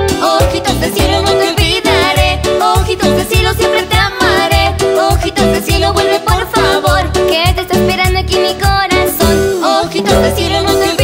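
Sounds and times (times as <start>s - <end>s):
upbeat latin pop song: 0.0s - 11.0s.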